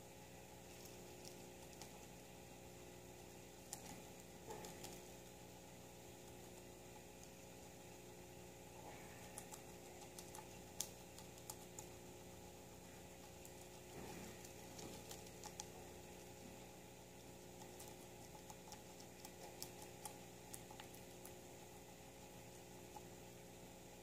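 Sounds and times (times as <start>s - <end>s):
guinea pig chewing greens: 0.0s - 24.0s
low steady hum: 0.0s - 24.0s.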